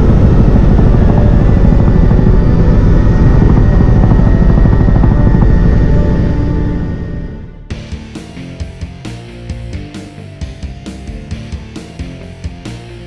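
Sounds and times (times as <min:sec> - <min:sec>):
helicopter rotor beating: 0:00.0 - 0:12.3.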